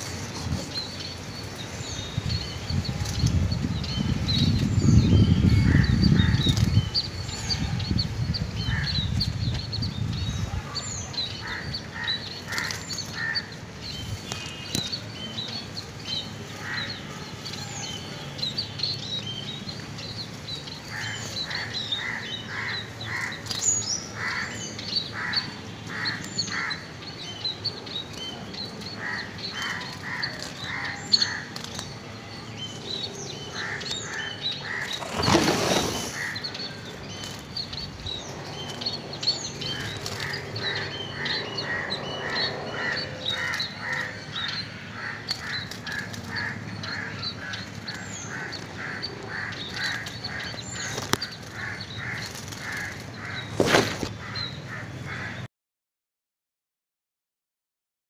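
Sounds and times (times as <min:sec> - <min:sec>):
birds calling: 0:00.0 - 0:55.5.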